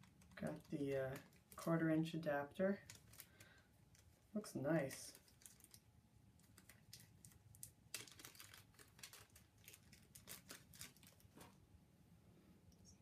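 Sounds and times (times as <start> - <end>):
plastic crinkling: 0.0 - 11.6.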